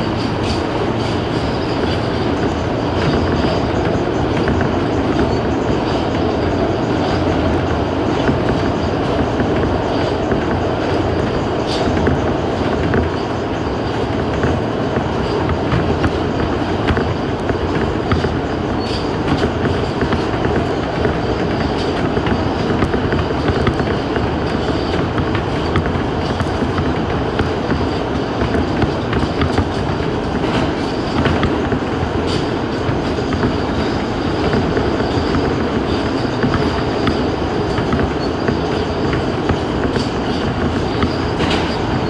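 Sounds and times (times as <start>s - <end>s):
faint high wheel squeal: 0.0s - 42.0s
train rumbling: 0.0s - 42.0s
wheels clicking over rail joints: 0.0s - 42.0s.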